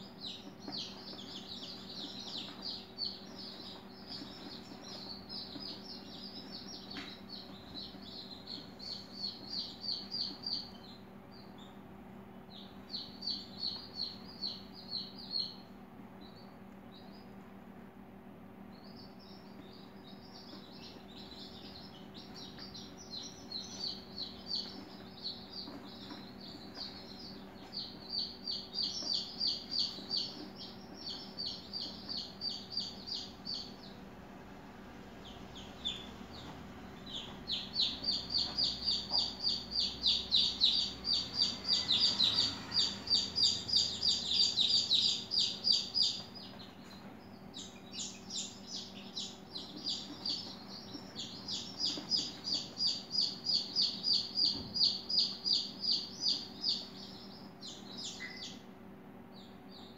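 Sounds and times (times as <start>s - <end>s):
rapid high-pitched chirping: 0.0s - 11.8s, 12.4s - 17.3s, 18.8s - 34.0s, 35.3s - 58.7s.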